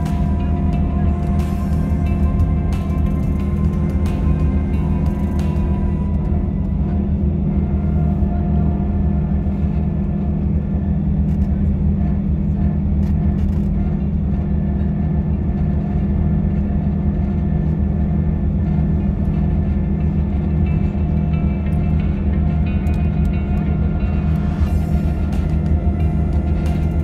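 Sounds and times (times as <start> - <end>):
bus engine and tyres droning: 0.0 - 27.0.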